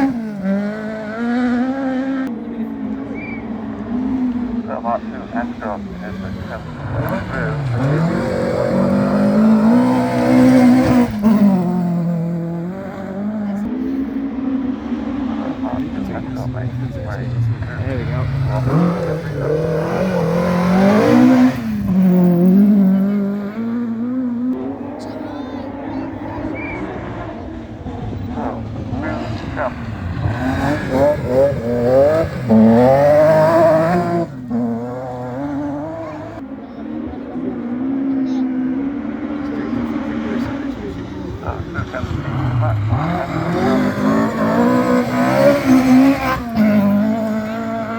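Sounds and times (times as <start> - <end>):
rally car engine at high revs: 0.0 - 47.9.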